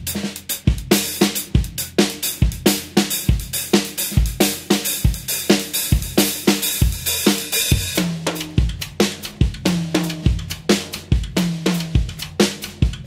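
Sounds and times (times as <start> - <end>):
fast drum kit groove: 0.0 - 13.0.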